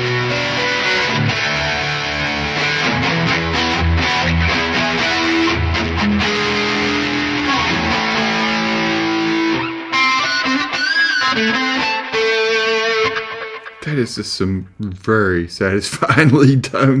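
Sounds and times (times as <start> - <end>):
distorted electric guitar notes: 0.0 - 13.8.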